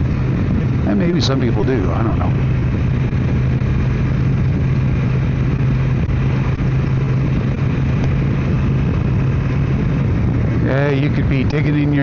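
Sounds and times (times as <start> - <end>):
motorcycle engine cruising: 0.0 - 12.0
wind rushing: 0.0 - 12.0.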